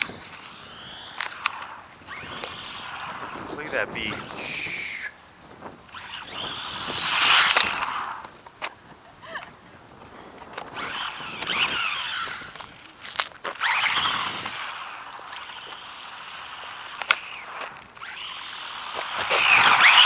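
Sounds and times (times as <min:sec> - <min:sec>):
electric motor whining: 0:00.0 - 0:08.5, 0:10.4 - 0:20.0.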